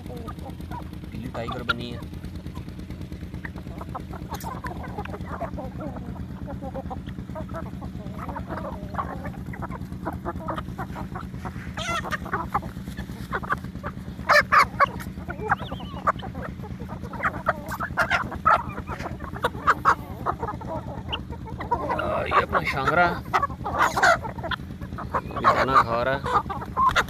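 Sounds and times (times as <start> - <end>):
chickens clucking softly: 0.0 - 27.0
sharp chicken calls: 0.0 - 27.0
steady low hum: 0.0 - 27.0.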